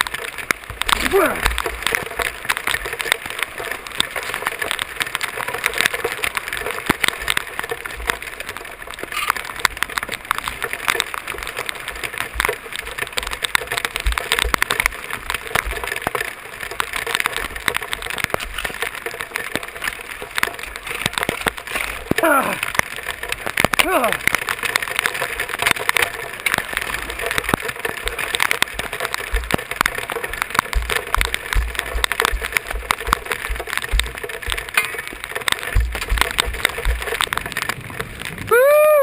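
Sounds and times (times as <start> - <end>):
floodwater running: 0.0 - 39.0
heavy rain downpour: 0.0 - 39.0.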